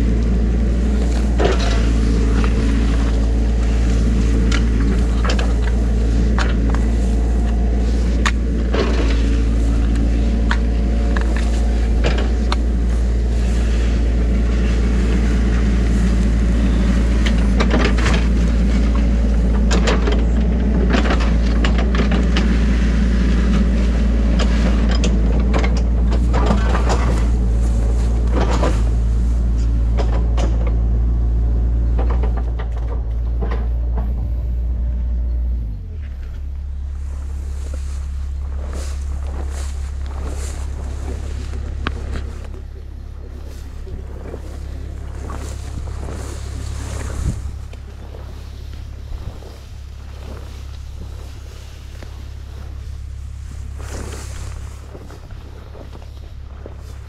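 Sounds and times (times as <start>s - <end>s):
diesel engine humming: 0.0s - 57.0s
footsteps rustling through tall grass: 0.0s - 57.0s.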